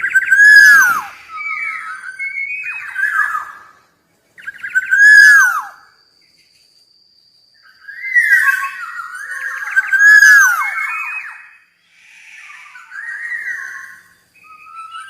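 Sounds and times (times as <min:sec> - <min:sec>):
bird whistling descending notes: 0:00.0 - 0:03.7, 0:04.4 - 0:05.8, 0:07.6 - 0:15.0.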